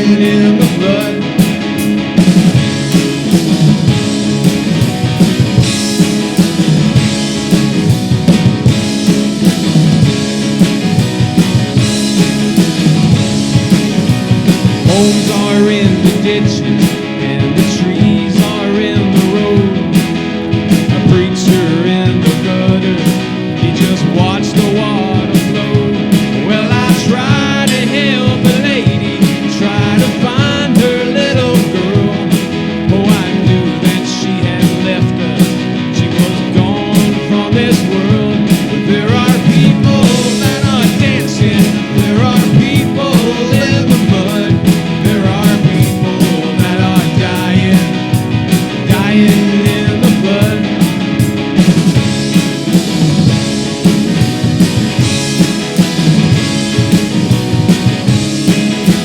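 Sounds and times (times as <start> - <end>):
guitar lead with bending notes: 0.0 - 59.0
rock band playing: 0.0 - 59.0.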